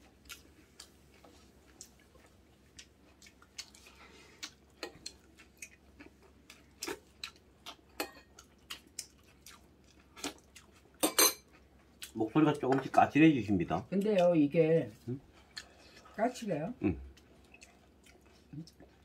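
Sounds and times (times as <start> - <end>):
chewing: 0.0 - 12.2, 14.9 - 16.2, 17.1 - 19.0.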